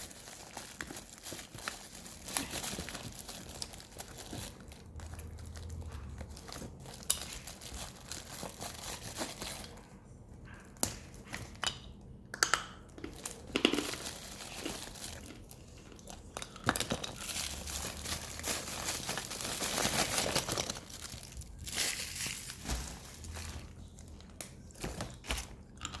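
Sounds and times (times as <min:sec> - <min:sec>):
packaging crinkling and tearing: 0:00.0 - 0:09.9, 0:13.0 - 0:26.0.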